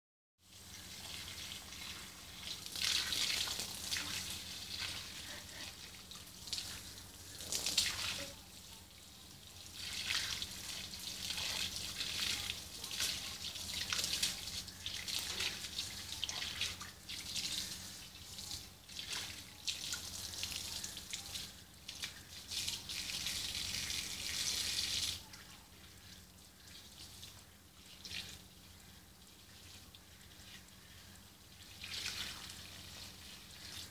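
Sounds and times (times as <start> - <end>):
hose water splashing on concrete: 0.4 - 33.9.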